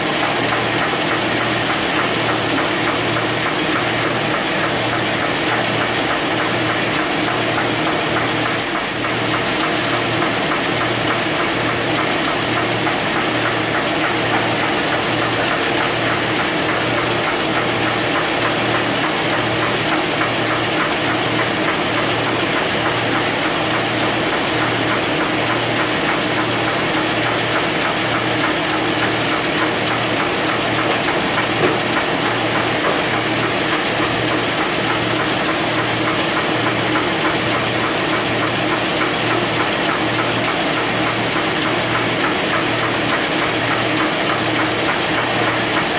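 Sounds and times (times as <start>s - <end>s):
machine clattering: 0.0s - 45.9s.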